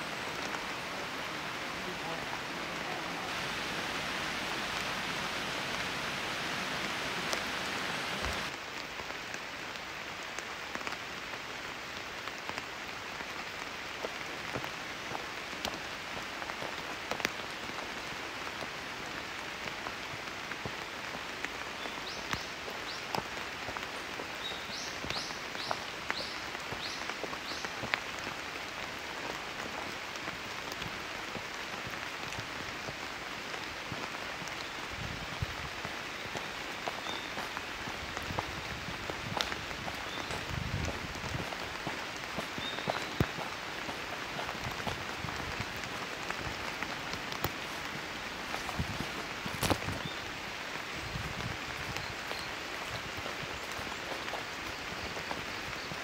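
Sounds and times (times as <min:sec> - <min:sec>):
rain falling through foliage: 0:00.0 - 0:56.0.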